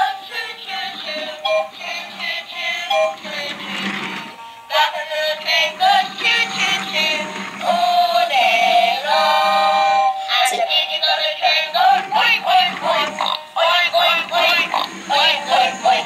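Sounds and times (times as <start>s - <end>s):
electronic toy song: 0.0s - 16.0s.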